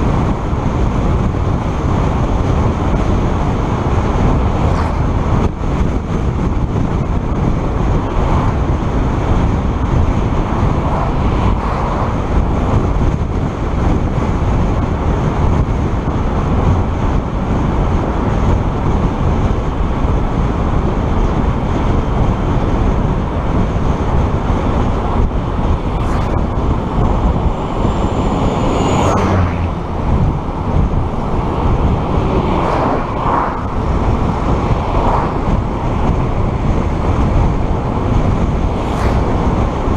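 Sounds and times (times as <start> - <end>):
car road and wind noise: 0.0 - 39.9
vehicles passing: 0.0 - 39.9.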